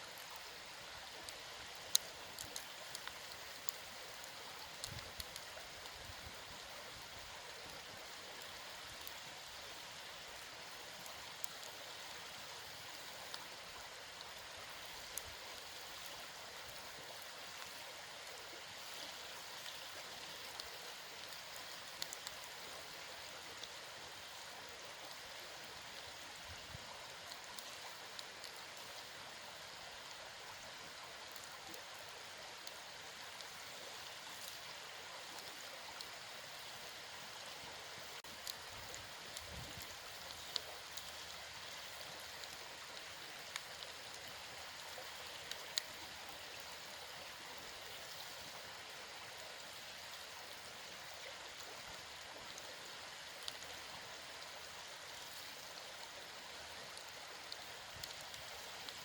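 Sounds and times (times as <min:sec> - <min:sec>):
campfire hiss: 0:00.0 - 0:59.0
fire crackles and pops: 0:00.0 - 0:59.0.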